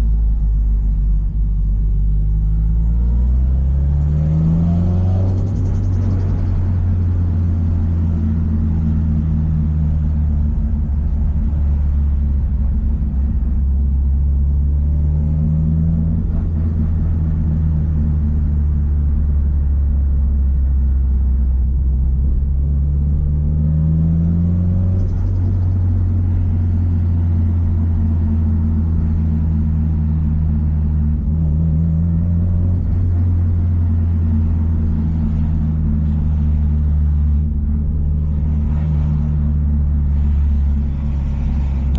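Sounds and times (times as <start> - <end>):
car engine droning at low revs: 0.0 - 41.9.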